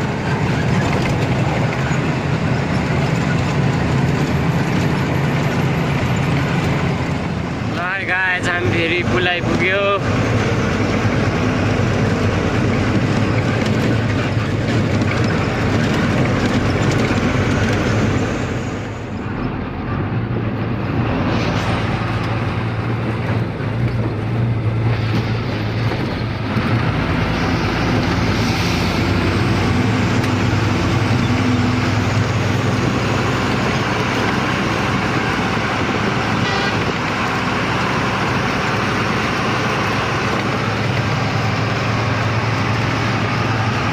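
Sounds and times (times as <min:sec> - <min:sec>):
truck engine running: 0:00.0 - 0:43.9
tyre and road noise: 0:00.0 - 0:43.9.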